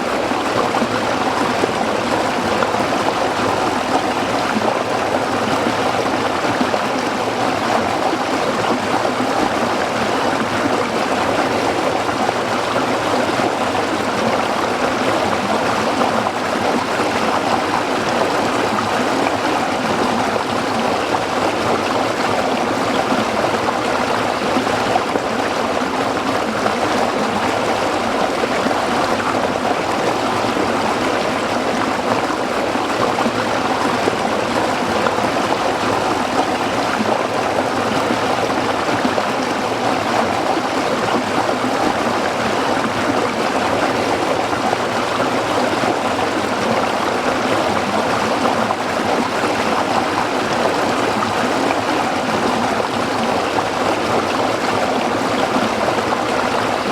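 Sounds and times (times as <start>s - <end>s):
stream burbling over rocks: 0.0s - 56.9s.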